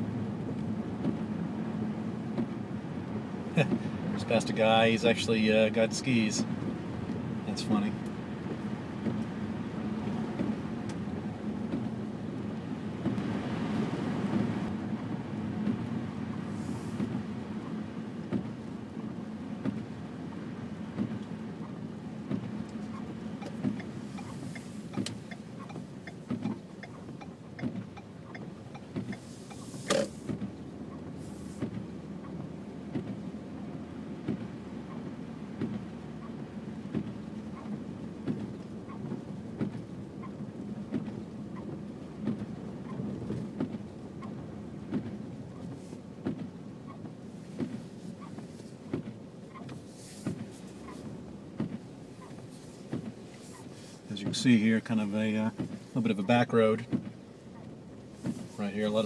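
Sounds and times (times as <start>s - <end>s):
engine and tyres humming: 0.0s - 59.0s.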